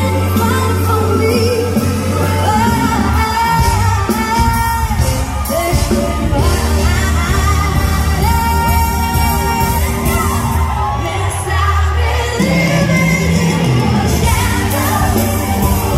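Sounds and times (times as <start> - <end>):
band playing: 0.0 - 15.9
woman singing: 0.0 - 15.9.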